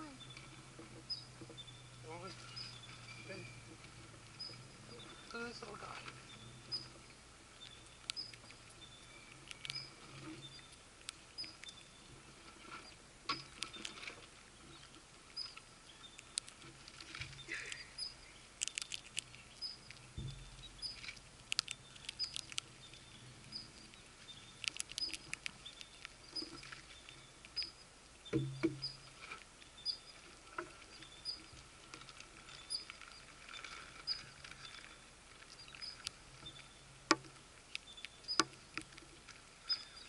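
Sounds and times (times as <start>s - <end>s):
squirrels nibbling and crunching: 0.1s - 40.0s.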